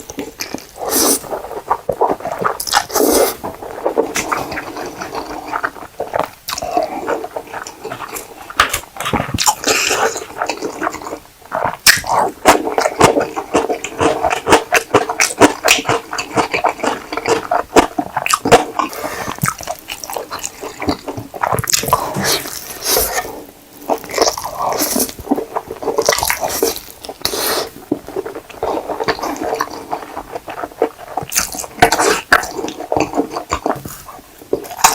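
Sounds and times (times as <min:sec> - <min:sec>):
mouth clicks and smacks: 0:00.0 - 0:34.9
wet chewing of noodles: 0:00.0 - 0:34.9.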